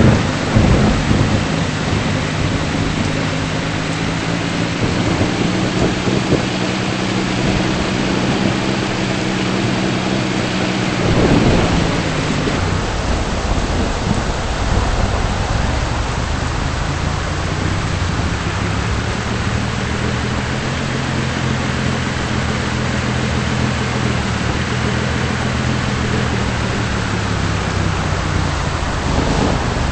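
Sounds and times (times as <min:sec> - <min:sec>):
heavy rain falling: 0:00.0 - 0:29.9
steady low hum: 0:00.0 - 0:29.9
thunder rumble: 0:00.0 - 0:29.9.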